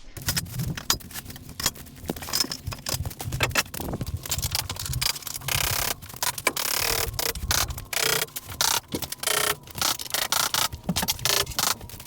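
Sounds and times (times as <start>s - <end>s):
scraping: 0.1s - 12.0s.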